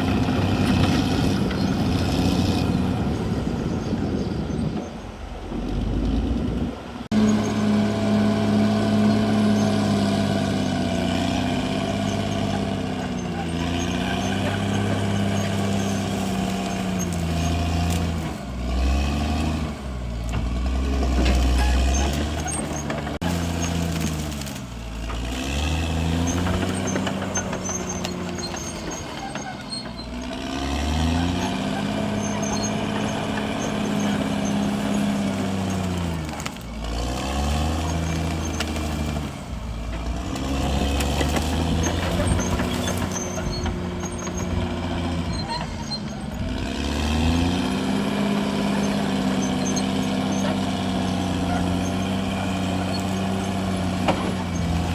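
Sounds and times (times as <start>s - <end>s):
bulldozer diesel engine working: 0.0s - 54.9s.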